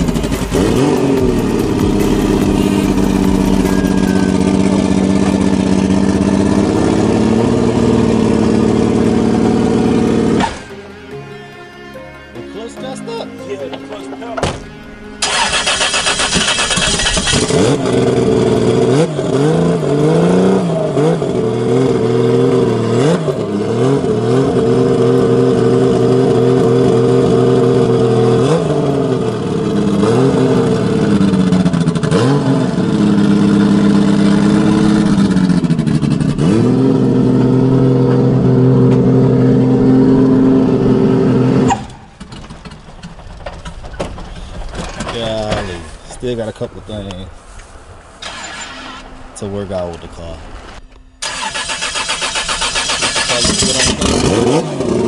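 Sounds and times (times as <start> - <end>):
car engine revving: 0.0 - 11.2, 13.6 - 55.0.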